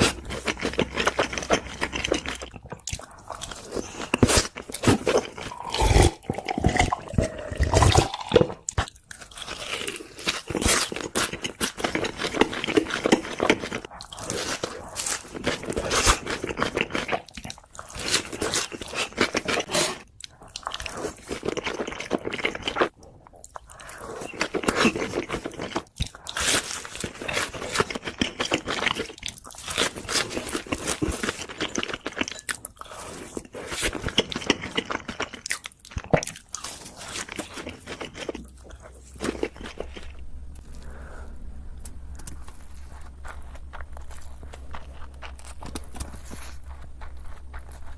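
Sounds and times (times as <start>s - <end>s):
crunchy chewing: 0.0s - 47.9s.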